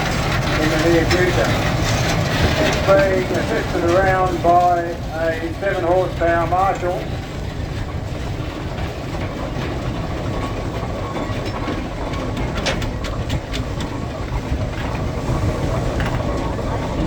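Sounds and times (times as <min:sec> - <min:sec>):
steam traction engine rumbling: 0:00.0 - 0:17.0.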